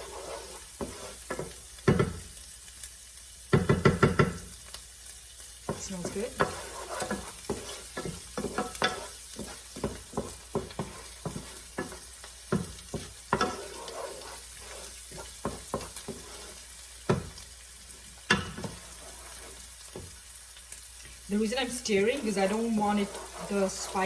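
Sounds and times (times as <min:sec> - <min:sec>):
spoon scraping and knocking pan: 0:00.0 - 0:02.4, 0:03.5 - 0:04.6, 0:05.6 - 0:20.4, 0:21.0 - 0:24.0
onions frying in oil: 0:00.0 - 0:24.0.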